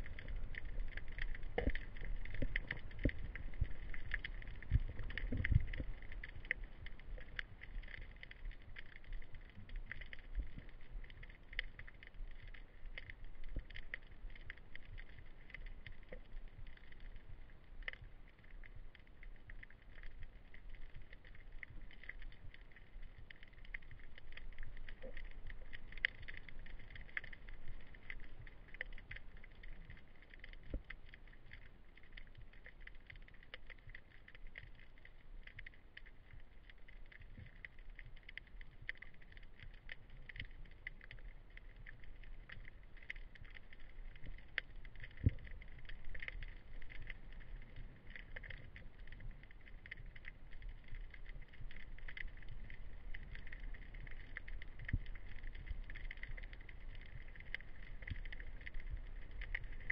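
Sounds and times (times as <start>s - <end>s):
low underwater rumble: 0.0s - 59.9s
underwater crackle of clicks: 0.0s - 59.9s.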